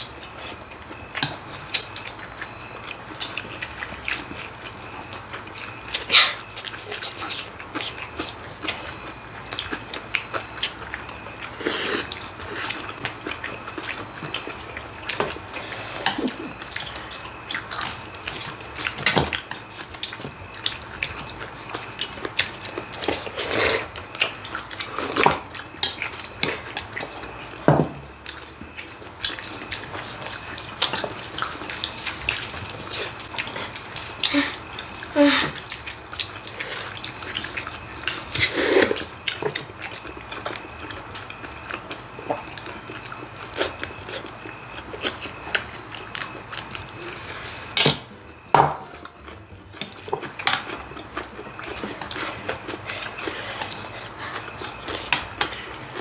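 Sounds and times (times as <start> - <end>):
people chewing and slurping: 0.0 - 56.0.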